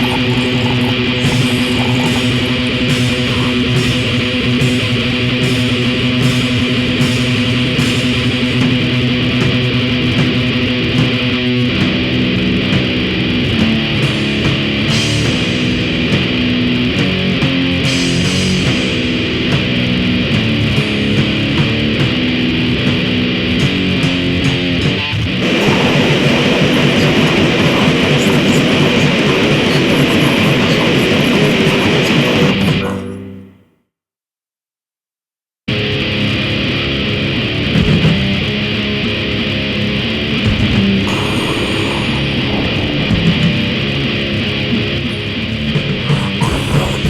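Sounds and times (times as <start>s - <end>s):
grind music with electric guitar: 0.0s - 33.4s, 35.7s - 47.0s.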